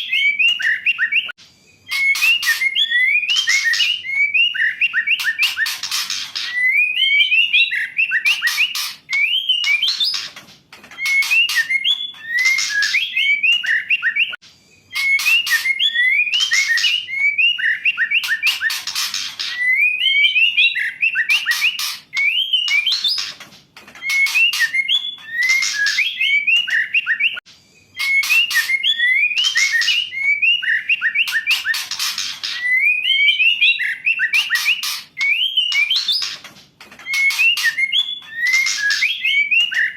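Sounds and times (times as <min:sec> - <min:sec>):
shama calling whistles and rasps: 0:00.0 - 0:10.4, 0:11.0 - 0:23.4, 0:24.0 - 0:36.4, 0:37.0 - 0:39.9.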